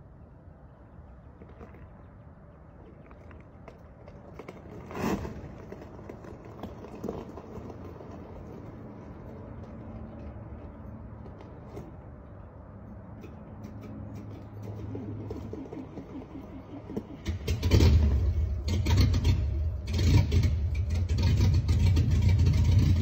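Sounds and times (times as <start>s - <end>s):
engine idling rumble: 0.0s - 23.0s.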